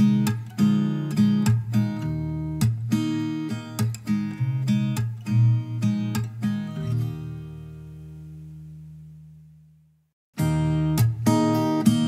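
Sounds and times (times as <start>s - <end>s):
acoustic guitar plucked and strummed: 0.0s - 9.6s, 10.4s - 12.0s.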